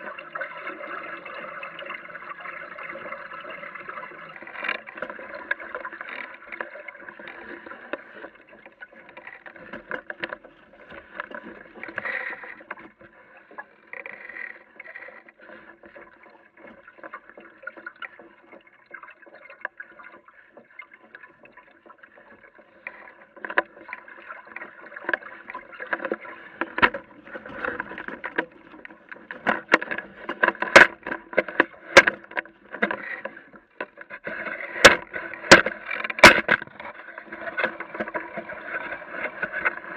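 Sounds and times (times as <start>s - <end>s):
water gurgling along boat hull: 0.0s - 39.9s
water slapping against hull: 2.7s - 39.9s.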